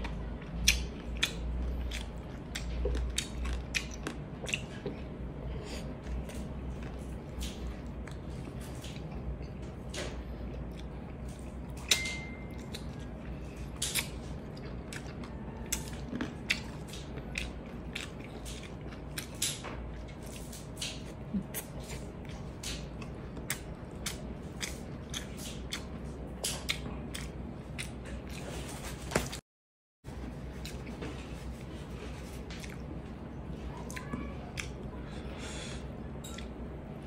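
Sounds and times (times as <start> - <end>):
chewing and wet mouth sounds: 0.0 - 29.4, 30.2 - 37.0
low steady hum: 0.0 - 29.4, 30.1 - 37.0.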